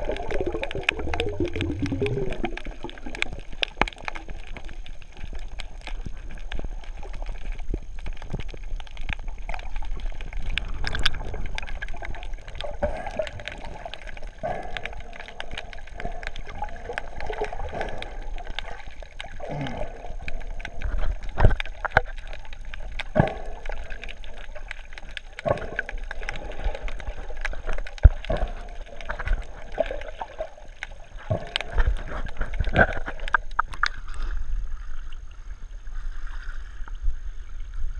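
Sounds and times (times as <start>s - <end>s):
underwater gurgling and bubbling: 0.0s - 37.9s.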